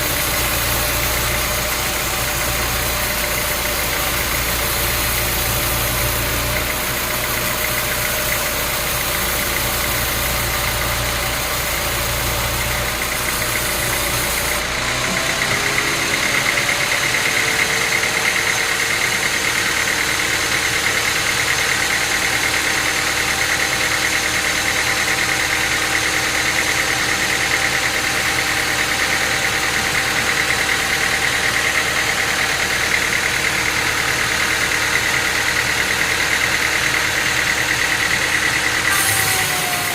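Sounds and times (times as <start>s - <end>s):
machinery high whine: 0.0s - 39.9s
sawmill engine rumbling: 0.0s - 39.9s.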